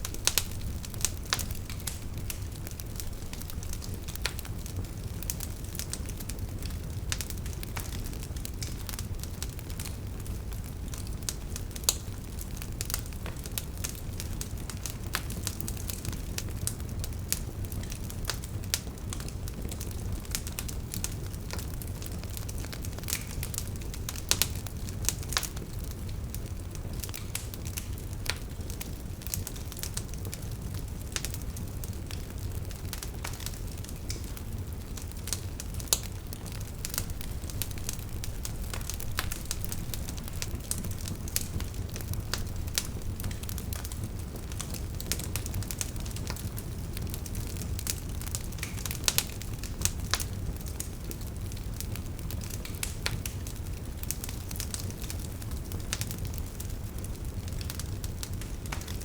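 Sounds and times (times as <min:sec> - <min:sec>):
campfire low rumble: 0:00.0 - 0:59.0
wood crackling and popping: 0:00.0 - 0:59.0.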